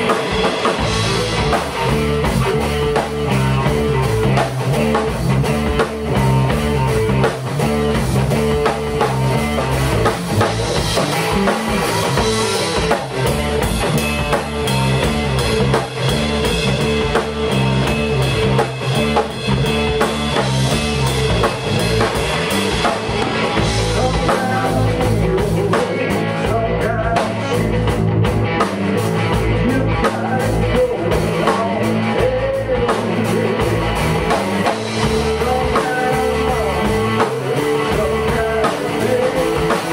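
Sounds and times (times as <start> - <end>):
drum kit with cymbals: 0.0 - 39.9
electric bass: 0.0 - 39.9
electric guitar: 0.0 - 39.9.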